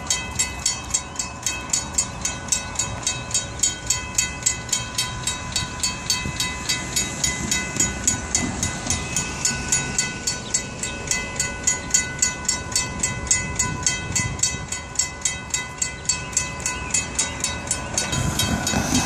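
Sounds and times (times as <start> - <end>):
railroad crossing bell ringing: 0.0 - 19.0.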